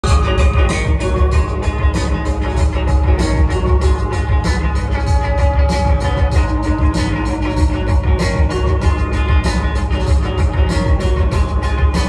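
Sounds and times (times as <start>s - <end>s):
drum kit steady beat: 0.0s - 12.0s
electric guitar: 0.0s - 12.0s
keyboards: 0.0s - 12.0s.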